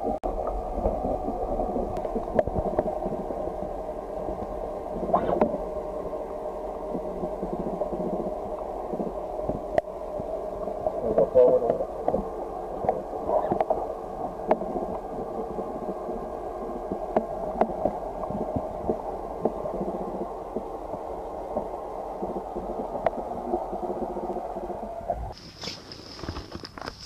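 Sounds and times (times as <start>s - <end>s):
underwater murmur: 0.0s - 25.4s.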